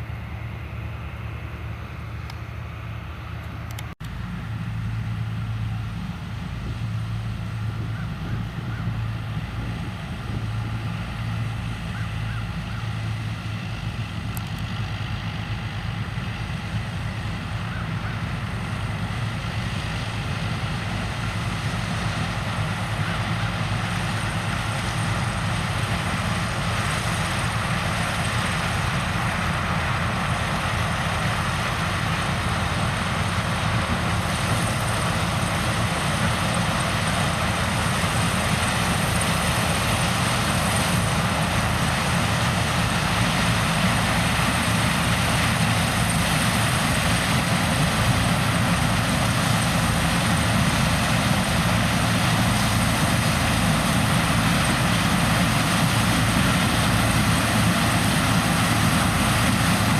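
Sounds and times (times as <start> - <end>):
low engine drone: 0.0 - 59.9
rushing mechanical noise: 0.0 - 59.9.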